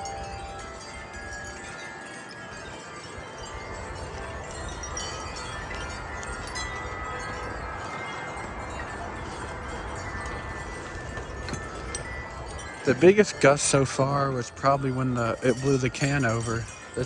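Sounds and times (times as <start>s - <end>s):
wind chimes ringing: 0.0s - 17.0s
wind noise on microphone: 0.0s - 17.0s.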